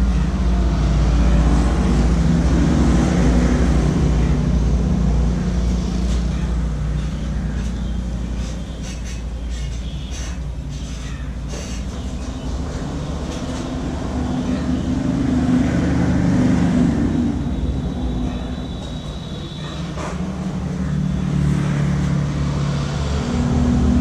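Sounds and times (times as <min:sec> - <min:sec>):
road traffic rumble: 0:00.0 - 0:24.0
vehicle passing: 0:00.0 - 0:24.0.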